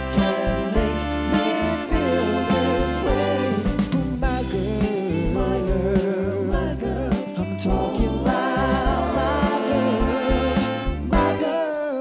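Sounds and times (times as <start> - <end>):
soul music with singing: 0.0 - 12.0.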